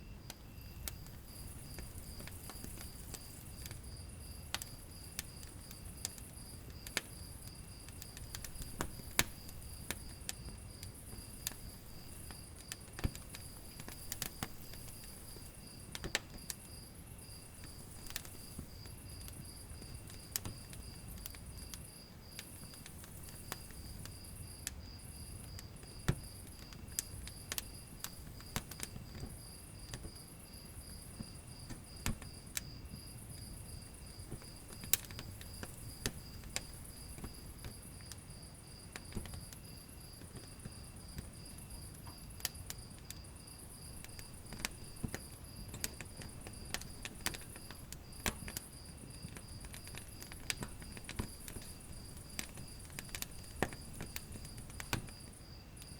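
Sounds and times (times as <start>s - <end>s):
insects chirping: 0.0s - 55.9s
wood fire crackling: 0.0s - 55.9s.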